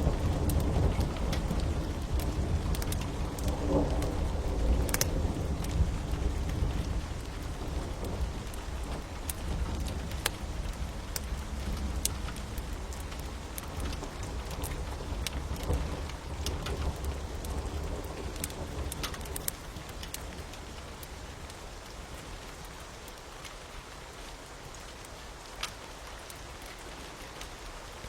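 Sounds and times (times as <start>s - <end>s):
wood fire crackling: 0.0s - 23.6s
rain hissing: 0.0s - 28.0s.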